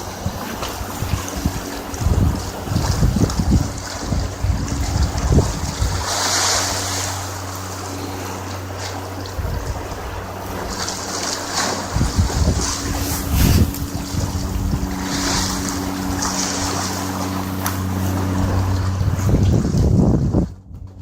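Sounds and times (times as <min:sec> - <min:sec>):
wind buffeting the microphone: 0:00.0 - 0:08.0, 0:08.6 - 0:21.0
sea washing against rocks: 0:00.0 - 0:20.6
boat engine humming: 0:00.0 - 0:21.0.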